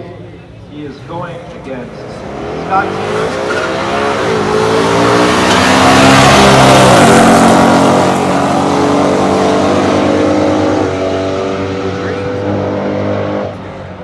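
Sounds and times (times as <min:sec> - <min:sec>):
cars accelerating at full throttle: 0:01.8 - 0:14.0.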